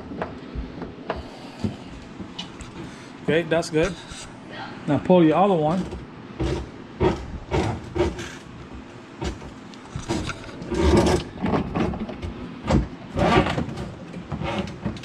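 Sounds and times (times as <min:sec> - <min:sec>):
hoses knocking and scraping: 0:00.0 - 0:04.3, 0:05.6 - 0:15.0.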